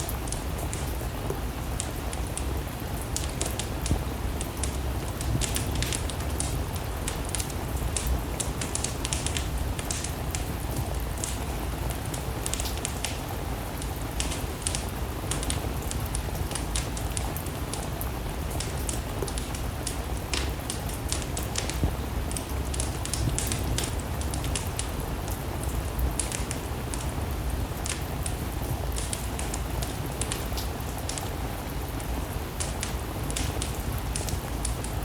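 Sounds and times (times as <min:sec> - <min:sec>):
rain: 0:00.0 - 0:35.0
wood fire crackling and popping: 0:00.0 - 0:35.0.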